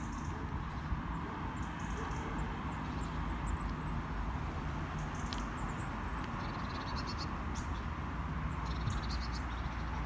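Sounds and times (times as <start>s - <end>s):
distant road traffic: 0.0s - 10.0s.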